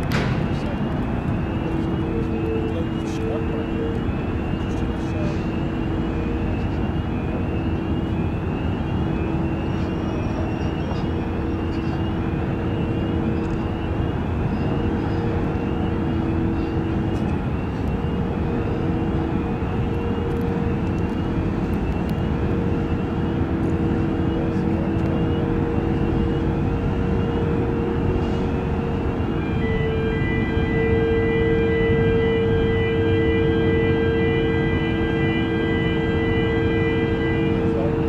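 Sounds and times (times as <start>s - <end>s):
ship engines droning: 0.0s - 38.0s.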